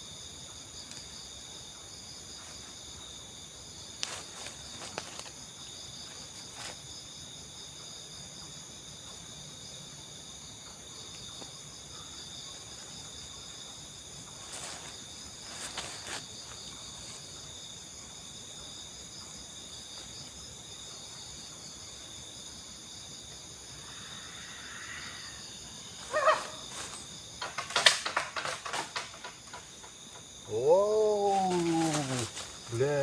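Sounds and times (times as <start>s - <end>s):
forest insects chorus: 0.0s - 33.0s.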